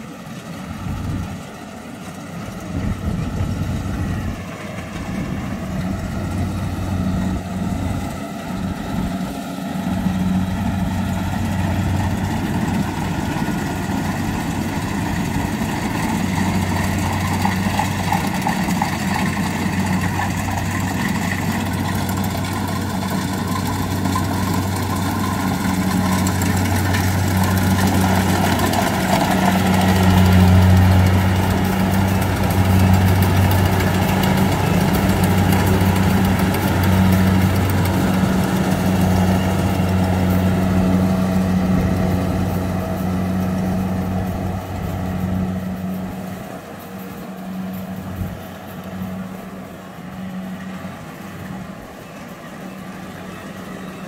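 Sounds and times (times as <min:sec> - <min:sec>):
combine harvester engine hum: 0:00.0 - 0:54.0.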